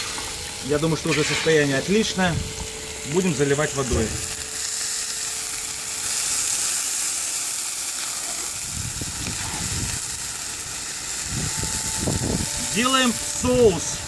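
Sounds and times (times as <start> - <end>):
oil and meat sizzling: 0.0 - 14.0.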